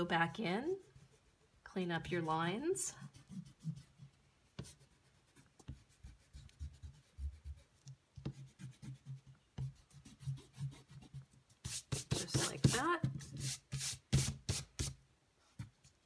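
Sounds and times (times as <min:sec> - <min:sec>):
eraser rubbing on paper: 0:00.2 - 0:15.0.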